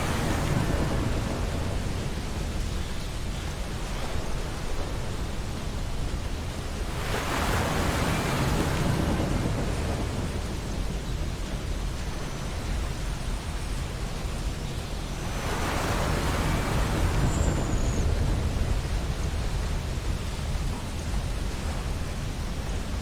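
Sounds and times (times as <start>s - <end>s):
ocean surf washing on beach: 0.0s - 23.0s.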